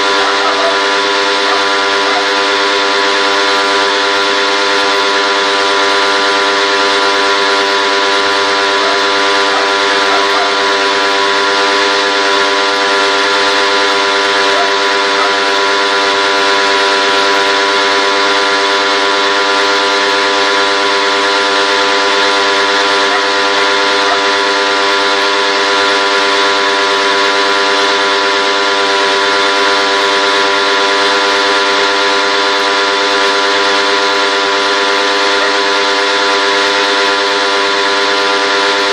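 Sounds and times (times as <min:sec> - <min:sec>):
machine humming: 0:00.0 - 0:38.9.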